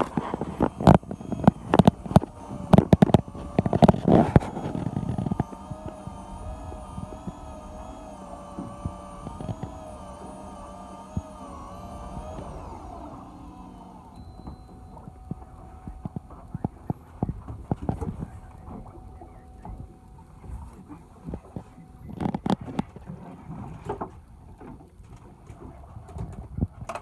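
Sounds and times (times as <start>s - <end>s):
electric fishing reel motor whining: 0.0s - 24.0s.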